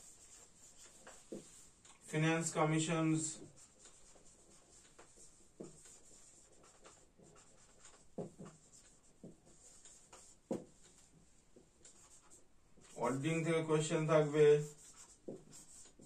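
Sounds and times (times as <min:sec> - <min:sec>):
marker writing on whiteboard: 0:00.0 - 0:16.0.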